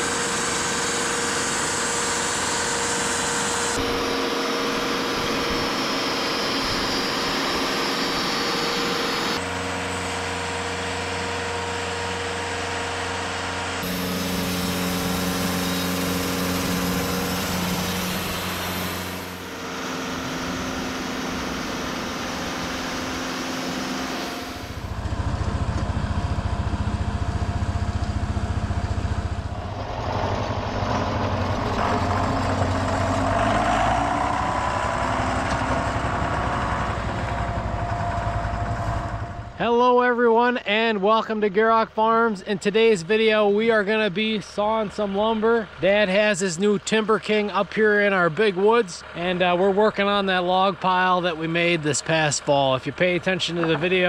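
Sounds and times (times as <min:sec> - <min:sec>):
sawmill engine and blade running: 0:00.0 - 0:54.0
tractor diesel engine running: 0:00.0 - 0:54.0.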